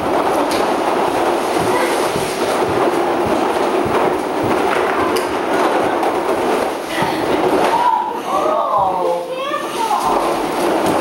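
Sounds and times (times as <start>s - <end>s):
toy truck rolling over wooden floor: 0.0s - 11.0s.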